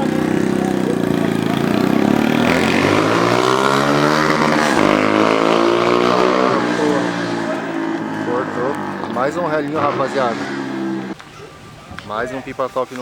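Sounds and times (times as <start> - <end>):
vehicle engine revving: 0.0 - 11.2.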